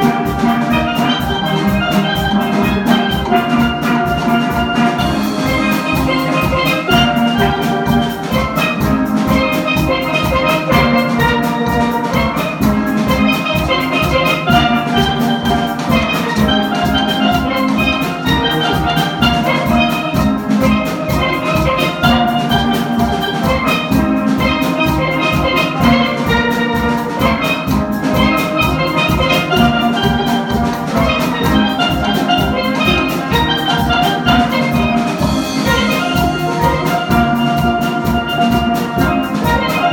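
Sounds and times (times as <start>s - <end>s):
drums keeping a beat: 0.0s - 39.9s
steelpans playing melodic runs: 0.0s - 39.9s.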